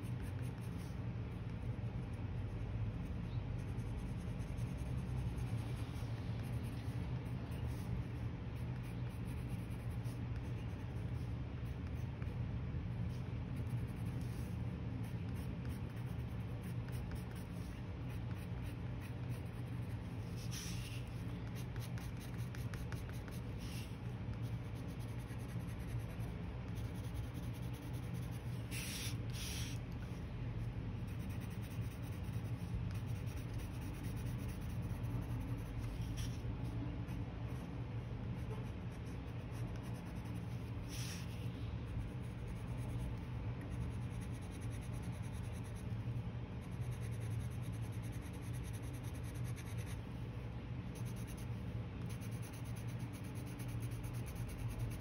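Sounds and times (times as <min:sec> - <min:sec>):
coloured pencil scratching on paper: 0:00.0 - 0:01.7, 0:02.4 - 0:12.3, 0:13.1 - 0:37.7, 0:38.4 - 0:45.8, 0:46.6 - 0:50.0, 0:50.9 - 0:55.0
steady low hum: 0:00.0 - 0:55.0.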